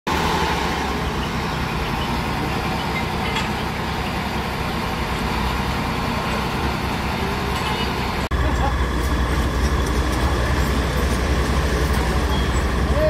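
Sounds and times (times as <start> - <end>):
heavy diesel engine running: 0.1 - 13.0.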